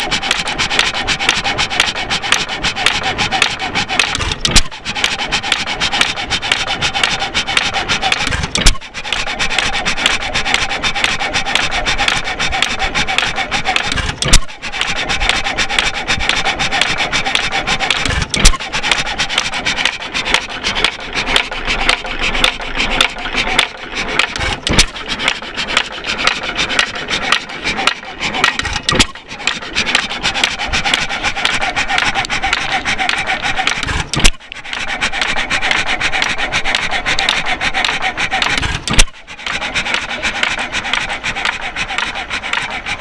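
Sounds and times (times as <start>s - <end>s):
gas engine clattering: 0.0s - 43.0s.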